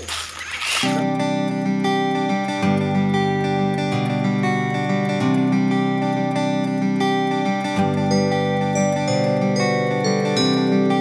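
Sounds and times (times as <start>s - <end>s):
acoustic guitar chords: 1.0s - 11.0s.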